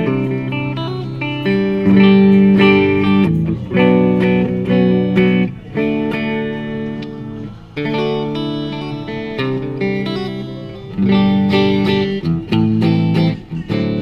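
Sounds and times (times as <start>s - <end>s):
clean electric guitar chords: 0.0s - 14.0s.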